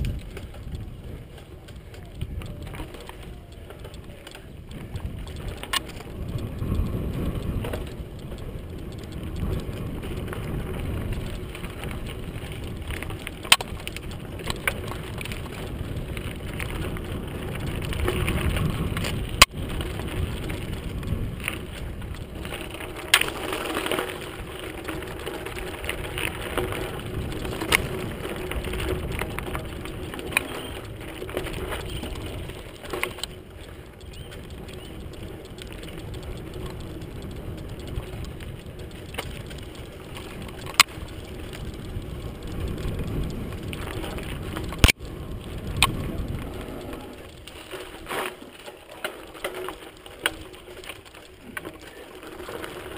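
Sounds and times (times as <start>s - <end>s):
bike clacks and rattles: 0.0s - 52.9s
bike tyres crunching on gravel: 0.0s - 52.9s.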